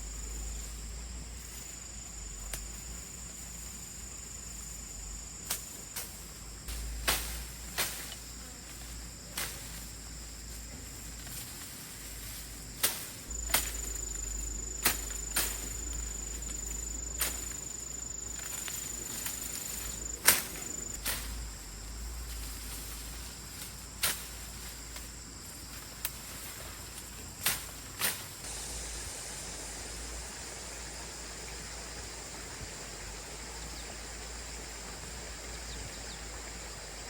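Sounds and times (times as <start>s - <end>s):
high-pitched insect trill: 0.0s - 37.0s.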